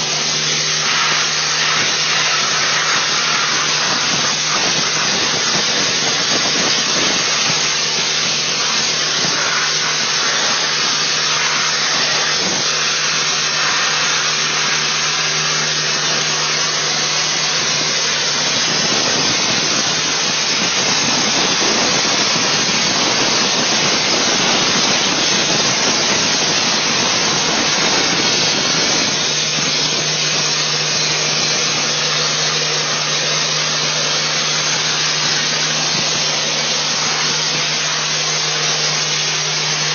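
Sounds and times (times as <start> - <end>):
blasting nozzle hissing: 0.0 - 39.9.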